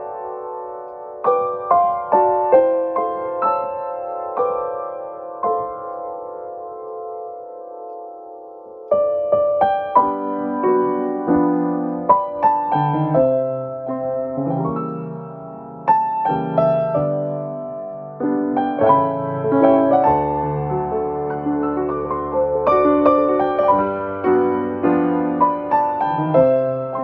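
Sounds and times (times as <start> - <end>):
slow piano-like chime melody: 0.0 - 27.0.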